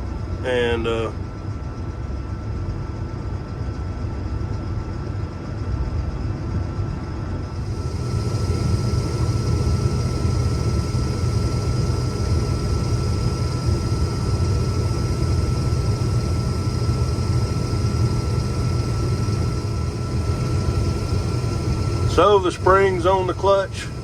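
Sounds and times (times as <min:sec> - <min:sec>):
combine harvester drone: 0:00.0 - 0:24.0
high-pitched whine: 0:00.0 - 0:24.0.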